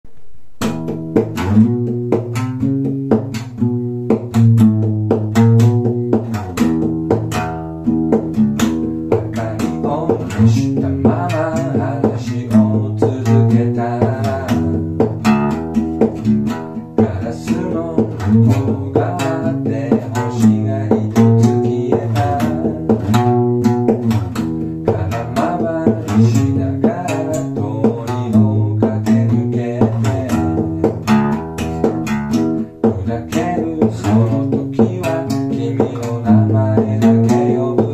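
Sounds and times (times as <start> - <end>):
acoustic guitar plucked bass notes: 0.1 - 37.9.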